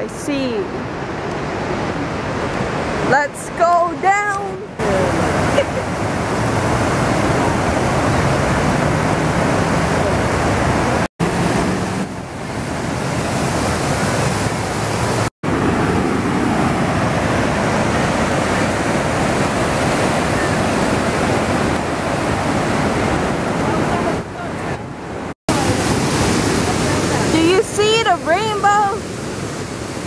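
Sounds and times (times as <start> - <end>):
wind buffeting microphone: 4.1 - 30.0
river rapids rushing: 4.8 - 30.0.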